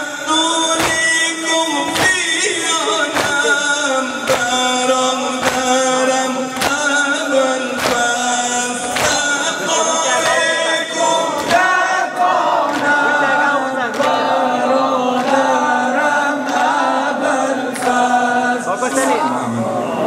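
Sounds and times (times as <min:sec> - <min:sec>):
congregation chanting: 0:00.0 - 0:20.0.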